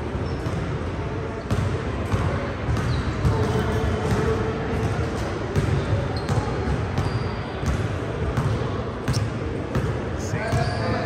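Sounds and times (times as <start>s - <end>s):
basketball dribbling on a court: 1.5s - 10.9s.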